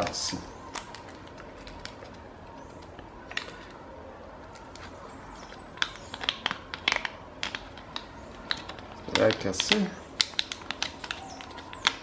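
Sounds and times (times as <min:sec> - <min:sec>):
plastic wrap crinkling: 0:00.0 - 0:12.0.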